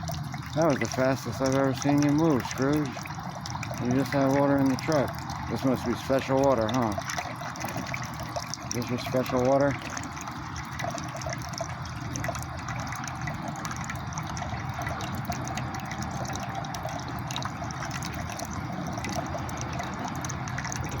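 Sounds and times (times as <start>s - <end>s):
drinking fountain water trickling: 0.0s - 21.0s.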